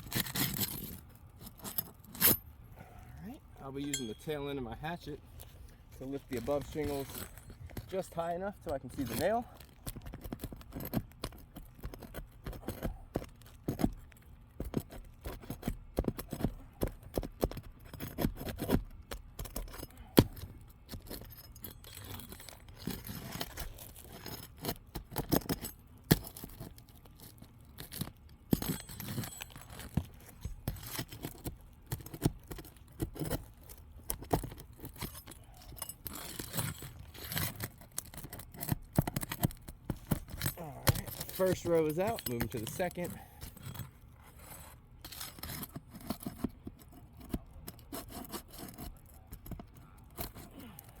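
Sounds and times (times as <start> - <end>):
hatchet scraping and knocking shingles: 0.0 - 2.5, 3.6 - 51.0.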